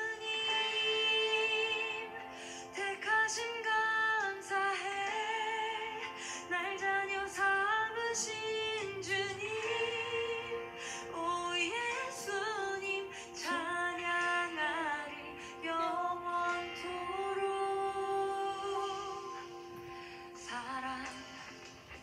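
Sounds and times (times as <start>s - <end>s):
worship song instrumental: 0.0s - 22.0s.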